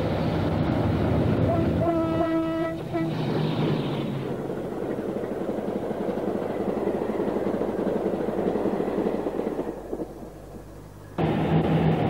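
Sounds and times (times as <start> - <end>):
diesel locomotive passing: 0.0 - 12.0.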